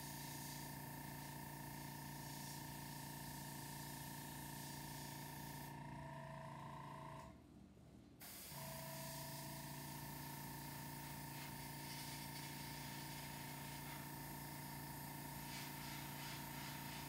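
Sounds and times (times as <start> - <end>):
airbrush hissing: 0.0 - 5.7, 8.2 - 17.0
air compressor humming: 0.0 - 7.3, 8.2 - 17.0.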